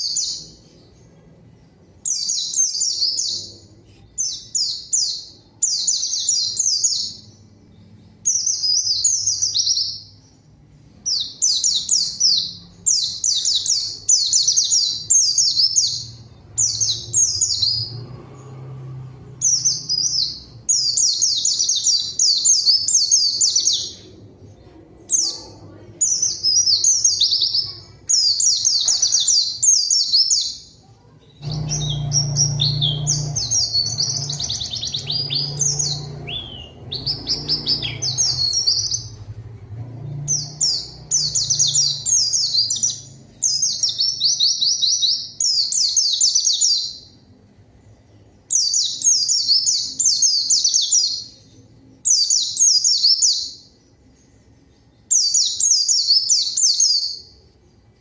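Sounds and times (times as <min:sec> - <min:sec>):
bird twittering song: 0:00.0 - 0:18.7, 0:19.4 - 0:30.8, 0:31.4 - 0:58.0.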